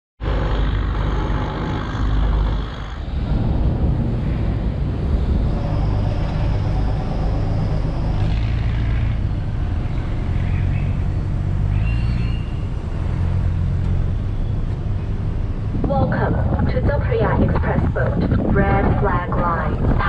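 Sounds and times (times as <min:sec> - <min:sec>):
low engine rumble: 0:00.2 - 0:20.0.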